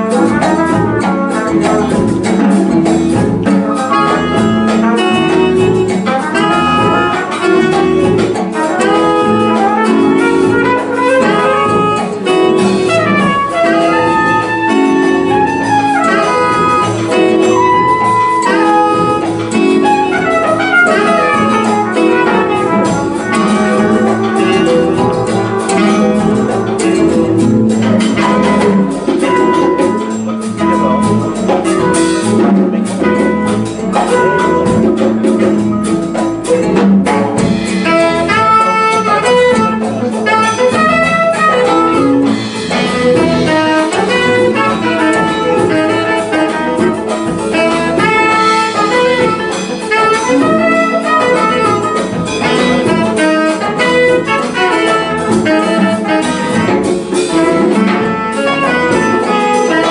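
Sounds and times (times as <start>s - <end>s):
congas: 0.0s - 59.9s
guitar: 0.0s - 59.9s
piano: 0.0s - 59.9s
saxophone: 0.0s - 59.9s
trumpet melody: 0.0s - 59.9s.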